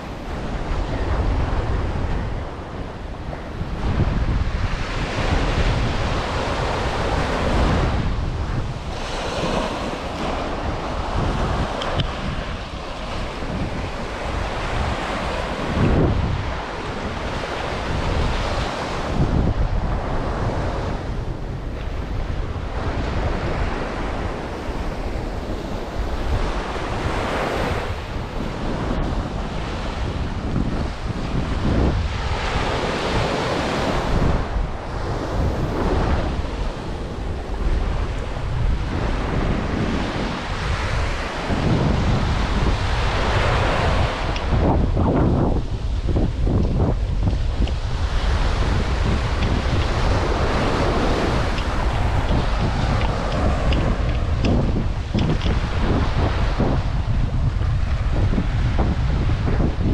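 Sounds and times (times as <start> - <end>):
ocean surf washing onto beach: 0.0 - 59.9
wind buffeting microphone: 0.0 - 59.9.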